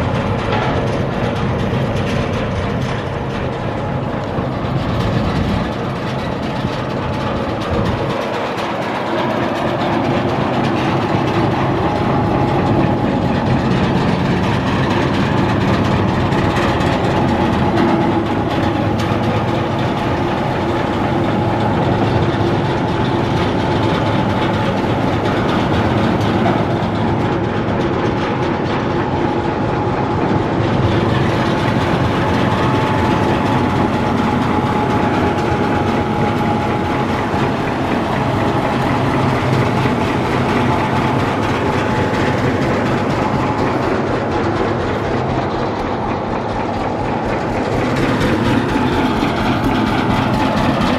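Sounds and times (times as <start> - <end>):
gas engine running: 0.0 - 50.9.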